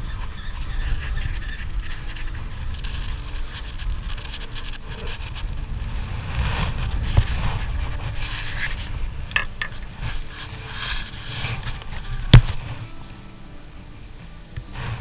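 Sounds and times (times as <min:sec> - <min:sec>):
sleeve rubbing against camera: 0:00.0 - 0:13.1, 0:14.7 - 0:15.0
wind buffeting microphone: 0:00.0 - 0:15.0.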